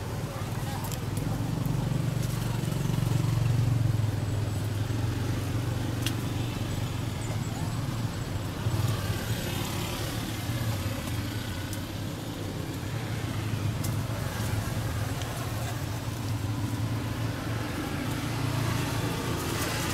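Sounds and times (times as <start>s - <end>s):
vehicle engine humming: 0.0s - 19.9s.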